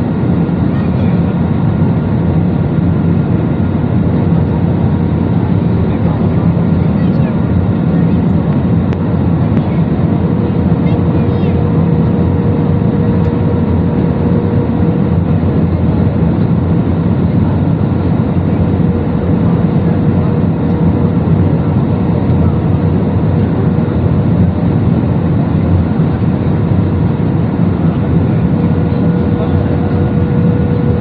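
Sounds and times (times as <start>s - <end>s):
jet engines in cabin: 0.0s - 31.0s
low drone: 0.0s - 31.0s
steady hum: 0.0s - 31.0s.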